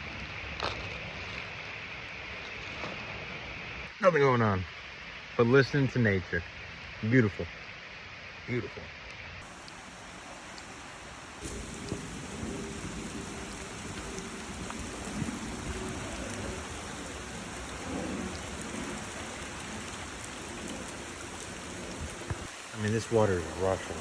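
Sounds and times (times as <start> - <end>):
creek rushing: 0.0 - 24.0
rain falling on woods: 0.0 - 24.0.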